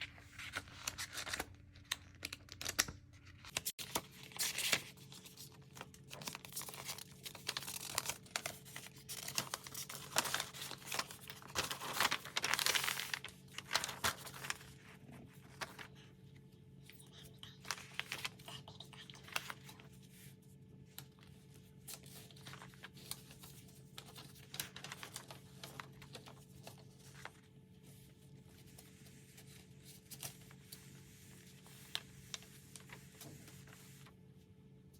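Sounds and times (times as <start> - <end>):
rustling and crinkling: 0.0 - 16.1, 16.9 - 34.2.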